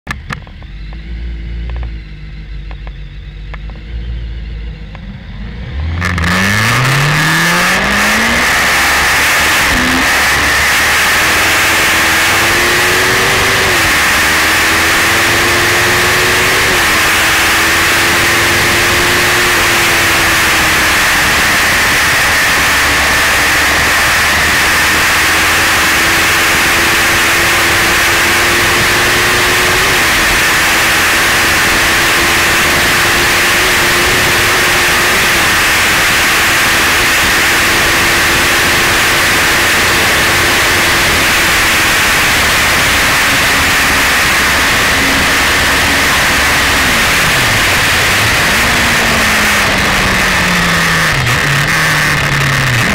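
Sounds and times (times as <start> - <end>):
motorcycle engine revving: 0.1 - 52.9.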